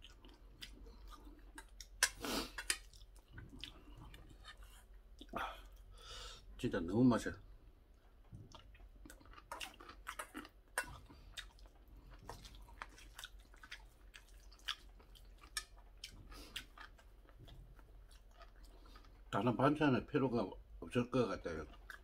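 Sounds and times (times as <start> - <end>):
person chewing: 0.0 - 6.0, 7.9 - 19.4, 21.6 - 22.0.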